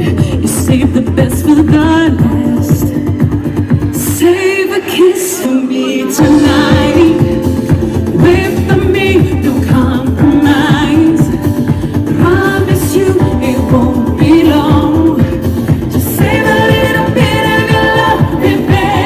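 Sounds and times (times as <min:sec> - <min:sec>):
dance-pop music over a pa: 0:00.0 - 0:19.0.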